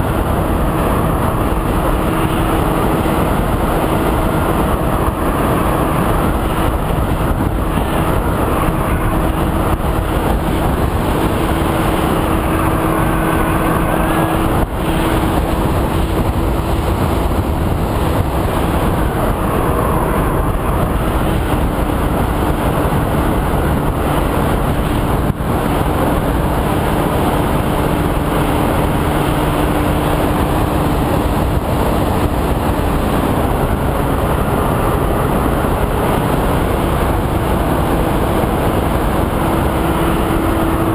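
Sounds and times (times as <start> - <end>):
wind rushing over camera: 0.0 - 40.9.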